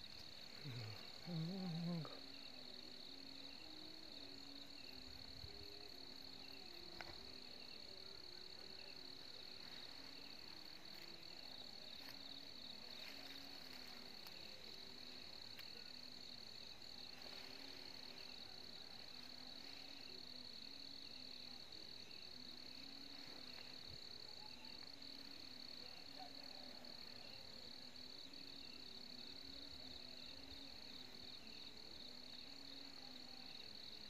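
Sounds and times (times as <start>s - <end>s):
cricket trilling: 0.0s - 34.0s.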